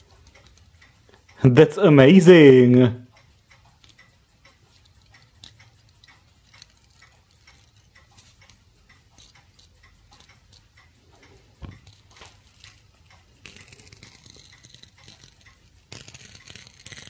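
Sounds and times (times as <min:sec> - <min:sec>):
faint small clicks and ticks: 0:00.0 - 0:01.4, 0:03.0 - 0:17.0.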